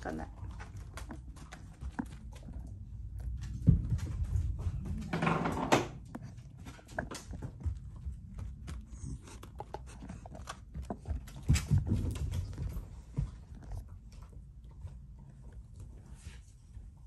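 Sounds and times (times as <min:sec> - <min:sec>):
dogs scuffling: 0:00.0 - 0:15.0
dog claws clicking on floor: 0:00.3 - 0:14.4.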